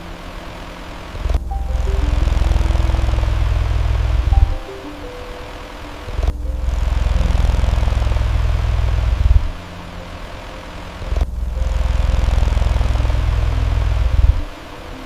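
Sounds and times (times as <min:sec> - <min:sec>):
electric fan whooshing: 0:00.0 - 0:15.0.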